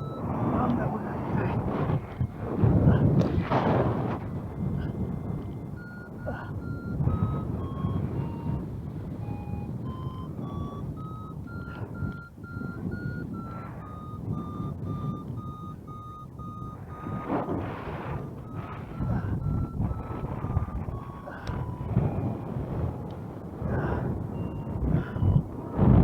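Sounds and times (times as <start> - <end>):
variometer beeping: 0.0 - 26.0
wind on microphone: 0.0 - 26.0.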